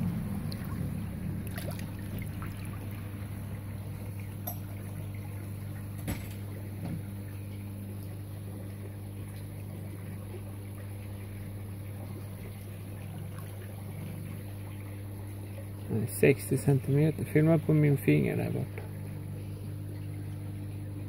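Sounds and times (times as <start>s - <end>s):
steady low hum: 0.0s - 21.0s
water sloshing in a plastic tub: 0.0s - 21.0s.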